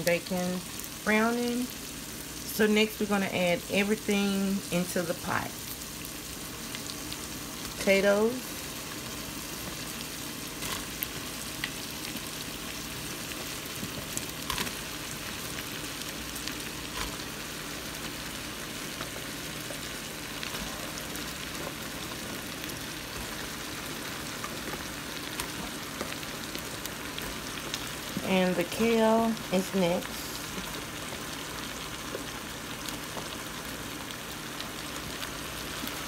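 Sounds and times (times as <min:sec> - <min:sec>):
meat and onions sizzling: 0:00.0 - 0:36.0.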